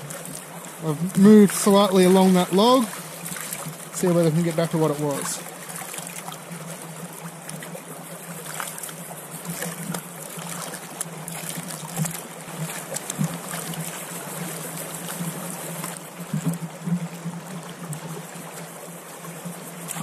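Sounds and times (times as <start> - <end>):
creek rushing: 0.0 - 16.6
water and gravel sloshing in pan: 0.0 - 16.8.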